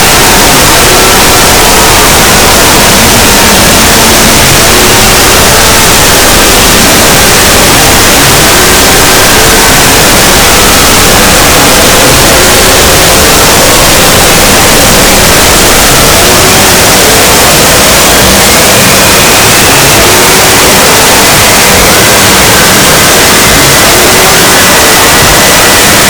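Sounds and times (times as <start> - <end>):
loud distorted static noise: 0.0 - 26.0.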